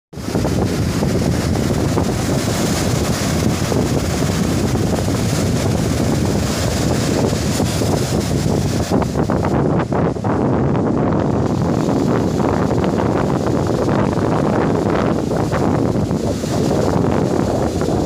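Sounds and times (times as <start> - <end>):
wind buffeting microphone: 0.1 - 18.0
sea surf breaking on beach: 0.2 - 18.0.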